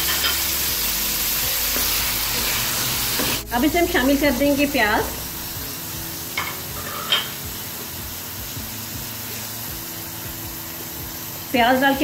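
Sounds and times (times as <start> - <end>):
meat and onions sizzling: 0.0 - 12.0.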